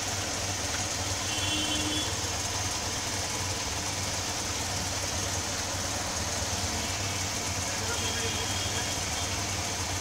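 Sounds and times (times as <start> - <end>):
auto-rickshaw engine running: 0.0 - 10.0.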